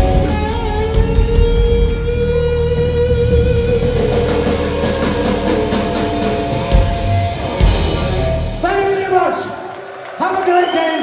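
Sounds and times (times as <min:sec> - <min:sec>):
live rock band playing: 0:00.0 - 0:09.3.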